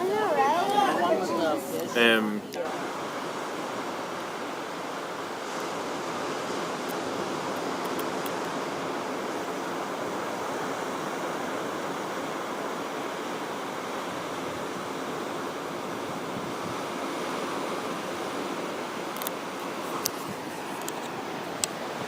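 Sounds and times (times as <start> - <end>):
surf washing onto beach: 0.0 - 22.0.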